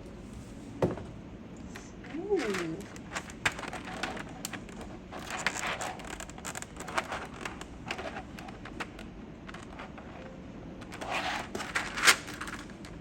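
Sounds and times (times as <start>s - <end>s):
plastic clicking and rustling: 2.4s - 13.0s.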